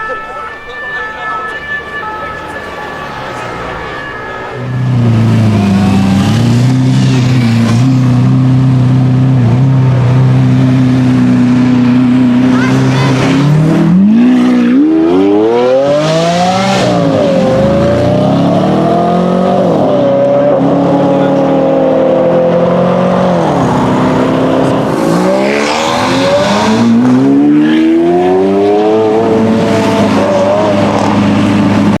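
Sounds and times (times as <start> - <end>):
sports car engine revving: 2.0 - 32.0.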